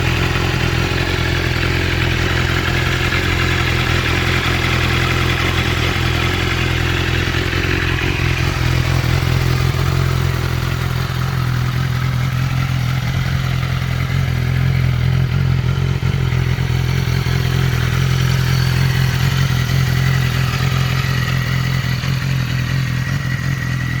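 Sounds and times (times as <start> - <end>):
motorcycle engine running steadily: 0.0 - 24.0.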